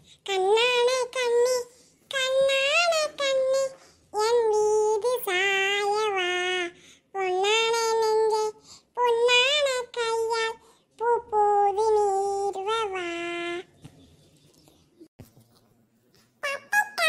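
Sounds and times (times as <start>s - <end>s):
child singing: 0.0s - 13.7s, 16.4s - 17.0s.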